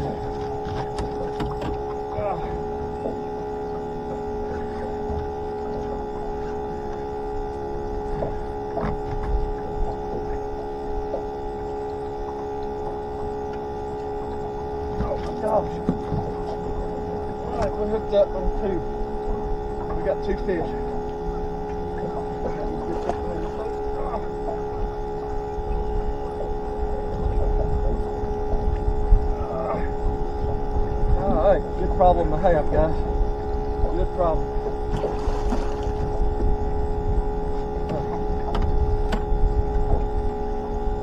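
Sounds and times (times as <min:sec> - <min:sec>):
low rumble: 0:00.0 - 0:41.0
pump whining: 0:00.0 - 0:41.0.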